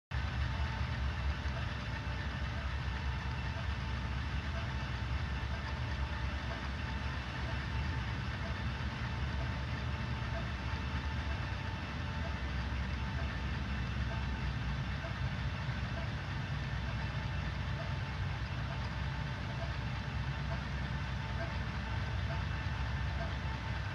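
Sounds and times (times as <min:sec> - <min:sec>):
faint steady tones: 0:00.1 - 0:23.9
low mechanical hum and rumble: 0:00.1 - 0:23.9.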